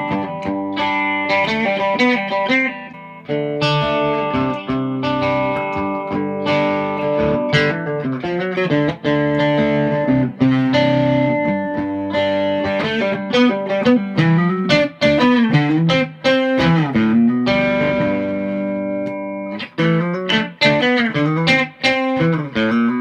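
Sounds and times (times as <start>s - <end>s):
electric guitar notes: 0.0s - 23.0s.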